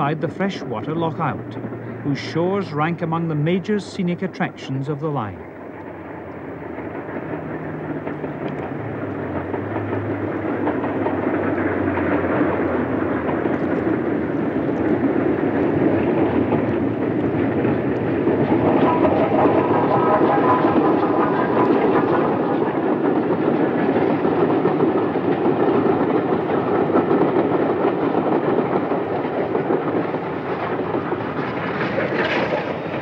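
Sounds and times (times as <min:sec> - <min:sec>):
steam locomotive rumble: 0:00.0 - 0:33.0.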